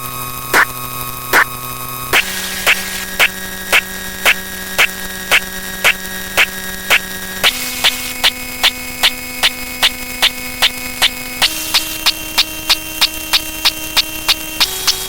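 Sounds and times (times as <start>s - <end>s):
electronic buzzing tone: 0.0s - 15.0s
sharp electronic clicks: 2.1s - 15.0s.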